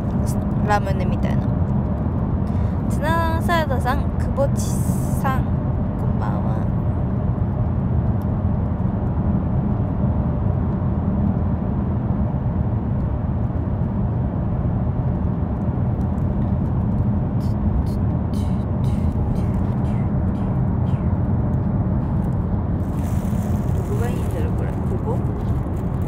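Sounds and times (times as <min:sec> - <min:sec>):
car interior road rumble: 0:00.0 - 0:26.0.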